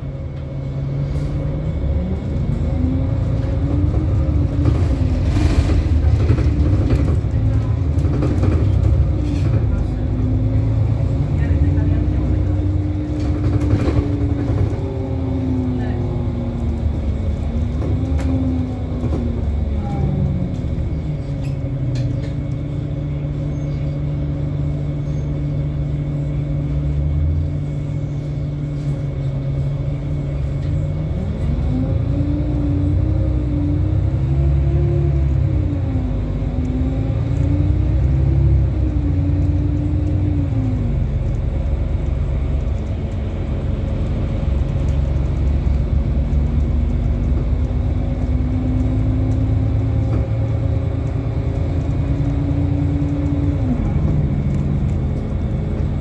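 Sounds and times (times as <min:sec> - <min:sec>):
bus diesel engine: 0:00.0 - 0:56.0
road and body rumble: 0:00.0 - 0:56.0.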